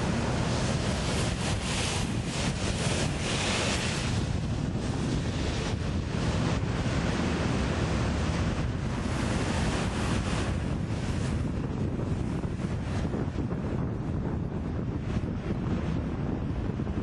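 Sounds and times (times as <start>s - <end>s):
wind blowing on microphone: 0.0s - 17.0s.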